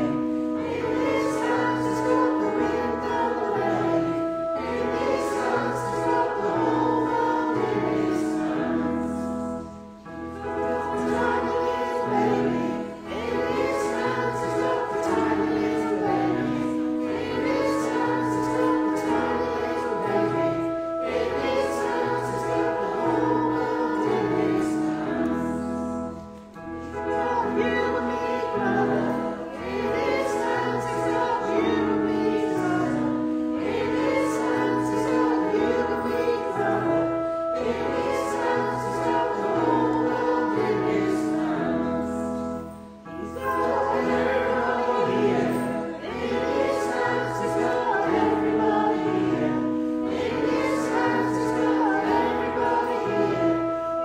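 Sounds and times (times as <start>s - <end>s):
group singing worship song: 0.0s - 54.0s
instrumental backing: 0.0s - 54.0s.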